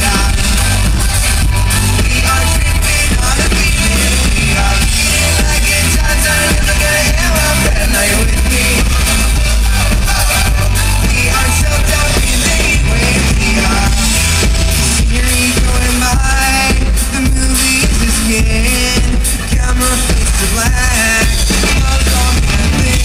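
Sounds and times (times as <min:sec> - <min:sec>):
live rock band playing: 0:00.0 - 0:23.0
person singing: 0:00.0 - 0:23.0.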